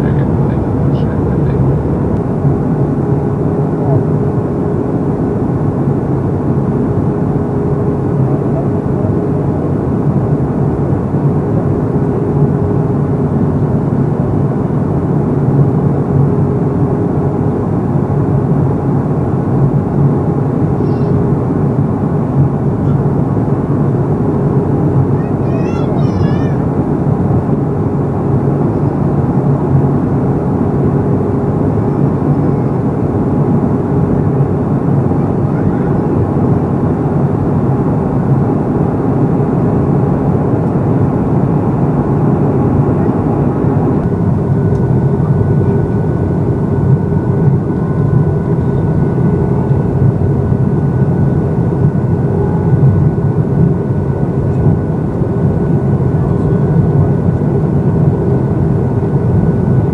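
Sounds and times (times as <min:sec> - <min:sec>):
faint steady whine: 0:00.0 - 0:59.9
jet engine cabin noise: 0:00.0 - 0:59.9.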